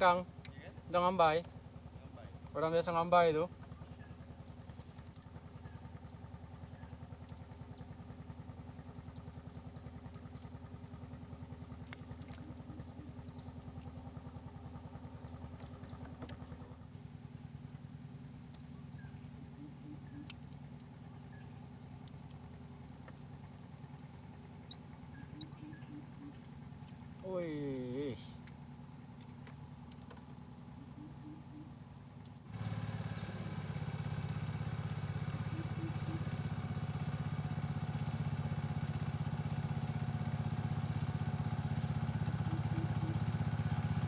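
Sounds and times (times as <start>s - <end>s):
high-pitched insect drone: 0.0s - 44.0s
small engine running: 0.0s - 44.0s.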